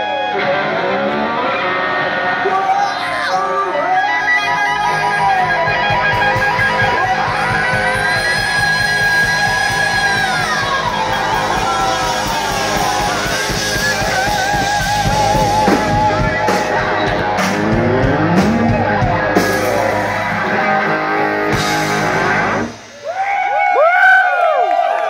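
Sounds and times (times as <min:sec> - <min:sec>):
distorted electric guitar rock music: 0:00.0 - 0:23.0.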